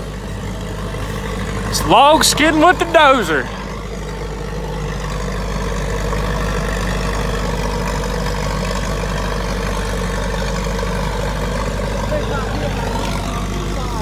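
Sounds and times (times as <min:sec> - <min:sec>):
dozer engine running under load: 0:00.0 - 0:14.0.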